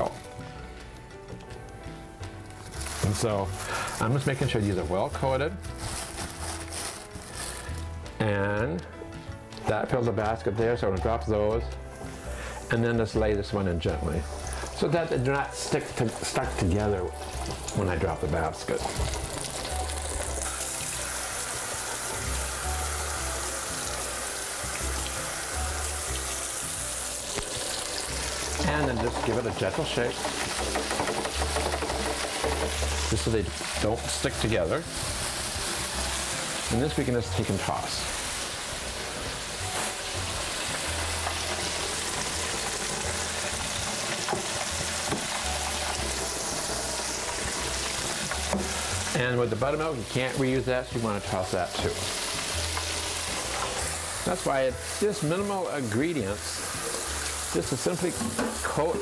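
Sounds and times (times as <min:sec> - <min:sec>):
oil bubbling and sizzling: 0:00.0 - 0:08.1, 0:11.8 - 0:12.8, 0:13.4 - 0:59.0.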